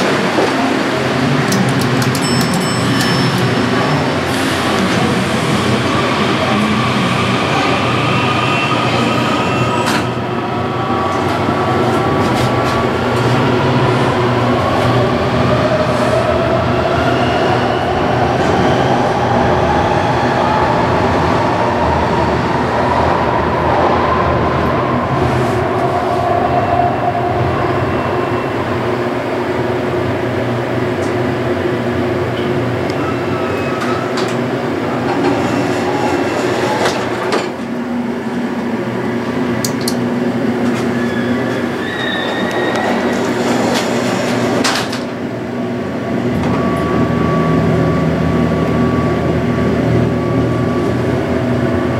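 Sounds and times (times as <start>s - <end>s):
train rumble: 0.0s - 51.9s.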